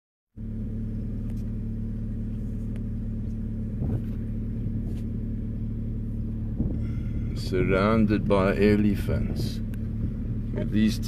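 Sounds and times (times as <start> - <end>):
vehicle engine idling: 0.4 - 11.0.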